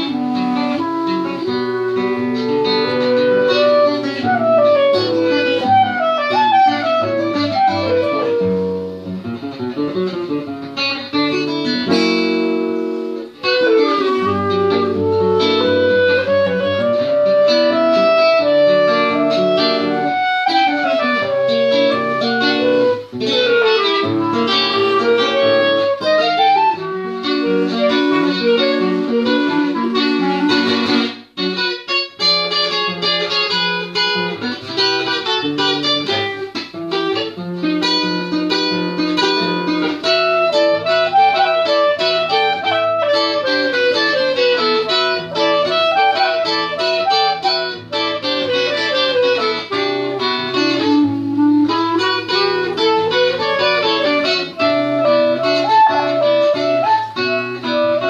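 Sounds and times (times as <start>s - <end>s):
clarinet melody: 0.0s - 58.0s
classical guitar plucking: 0.0s - 58.0s.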